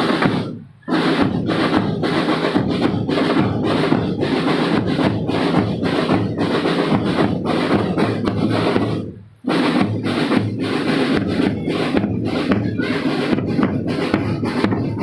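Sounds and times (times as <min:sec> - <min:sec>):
marching drum band playing: 0:00.0 - 0:15.0.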